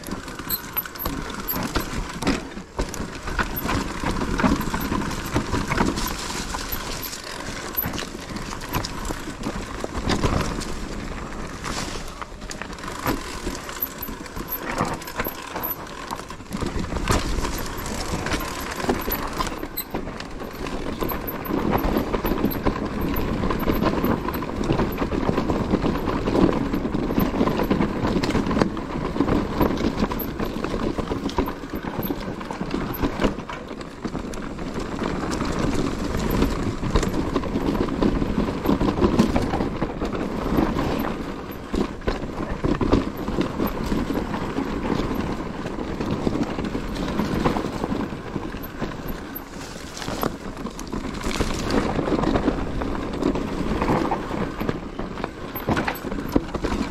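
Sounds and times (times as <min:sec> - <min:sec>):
bike rattling and knocking: 0:00.0 - 0:56.9
bike tyres on dirt and stones: 0:00.0 - 0:56.9.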